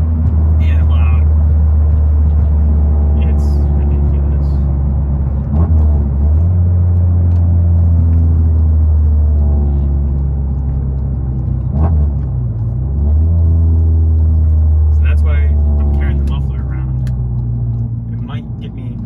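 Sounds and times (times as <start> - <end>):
car exhaust droning: 0.0 - 19.0.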